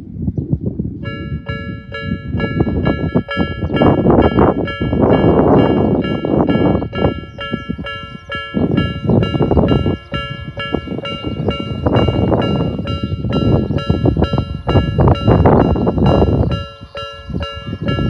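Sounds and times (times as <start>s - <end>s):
loud low rumble: 0.6s - 18.0s
level-crossing alarm bell dinging: 1.1s - 18.0s.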